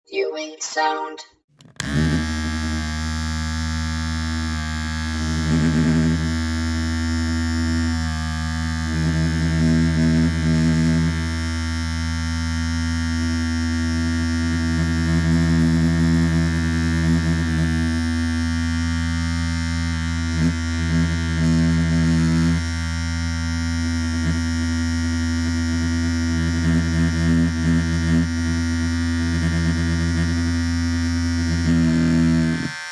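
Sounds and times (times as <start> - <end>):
electric hair trimmer buzzing: 1.8 - 32.9.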